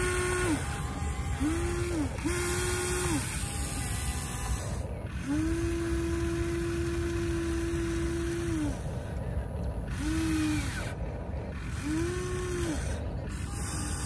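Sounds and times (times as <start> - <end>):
small electric motors whining: 0.0 - 14.0.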